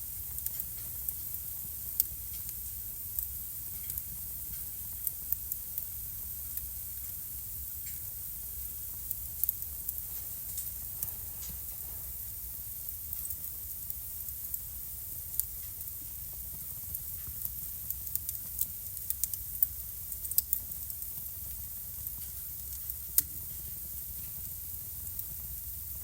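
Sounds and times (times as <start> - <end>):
fire popping: 0.0 - 26.0
low fire rumble: 0.0 - 26.0
wood fire crackling: 0.0 - 26.0.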